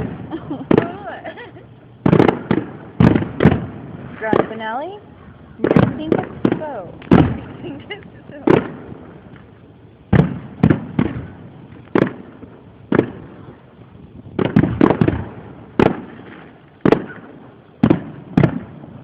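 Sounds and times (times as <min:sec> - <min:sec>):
fireworks shells bursting: 0:00.0 - 0:19.0.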